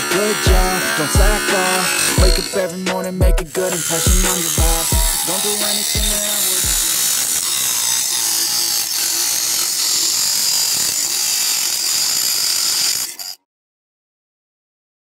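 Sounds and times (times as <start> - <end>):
saw grinding metal can: 0.0 - 13.4.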